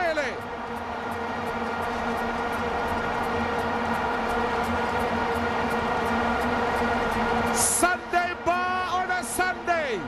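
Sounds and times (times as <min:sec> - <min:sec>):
stadium crowd noise: 0:00.0 - 0:10.0.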